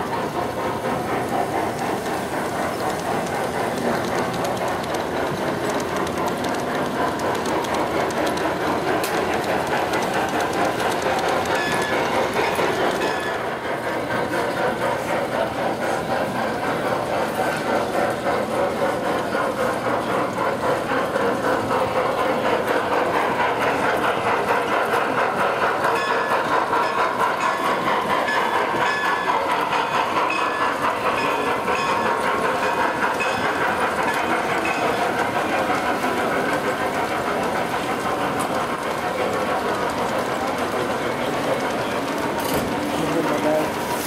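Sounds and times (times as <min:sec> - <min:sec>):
model train clattering: 0:00.0 - 0:44.0.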